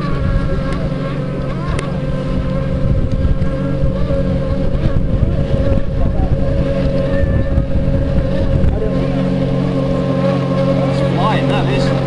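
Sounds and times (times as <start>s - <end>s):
powerboat engine drone: 0.0s - 12.0s
wind rumbling on microphone: 0.0s - 12.0s.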